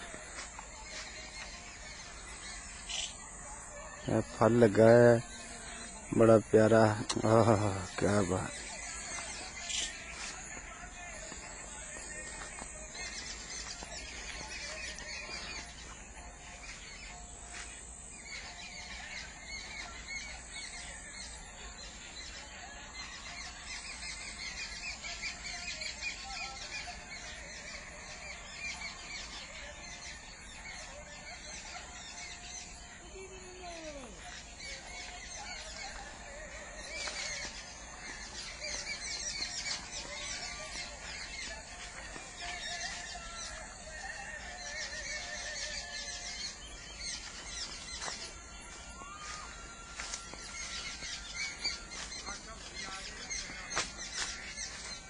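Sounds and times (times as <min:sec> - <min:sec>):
many birds chirping: 0:00.0 - 0:55.0.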